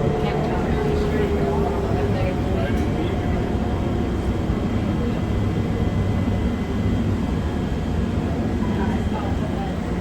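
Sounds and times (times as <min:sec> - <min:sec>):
tram low rumble: 0:00.0 - 0:10.0.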